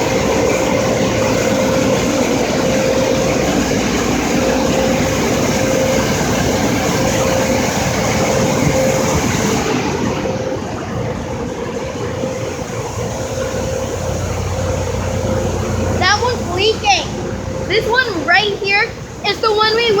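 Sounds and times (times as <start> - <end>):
blow dryers blasting air: 0.0 - 20.0
fan whine: 0.0 - 20.0.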